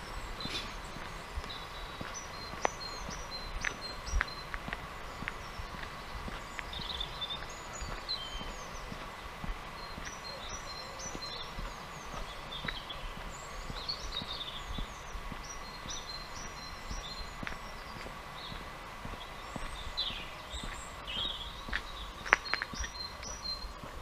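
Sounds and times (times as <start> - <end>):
footsteps on tarmac: 0.0 - 24.0
small songbirds chirping: 0.0 - 24.0.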